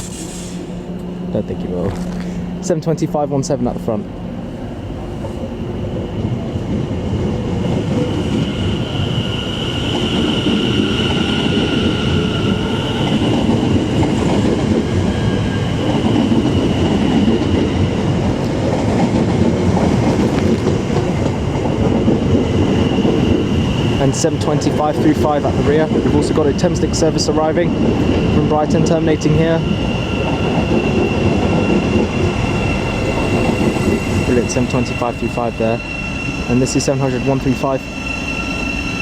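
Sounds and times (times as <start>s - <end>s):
trains rolling past: 0.0s - 39.0s.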